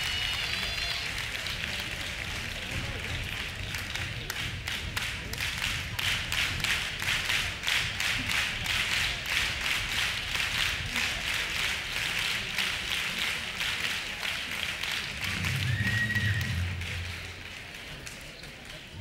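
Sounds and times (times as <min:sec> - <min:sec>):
people clapping in unison: 0:00.0 - 0:19.0.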